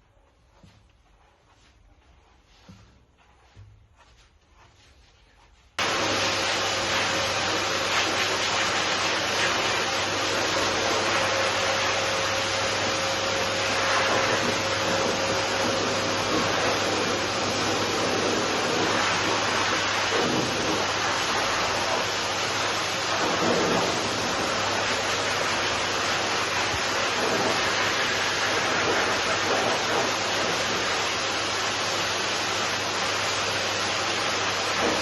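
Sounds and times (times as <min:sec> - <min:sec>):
grooming dryer blowing air: 0:05.8 - 0:35.0.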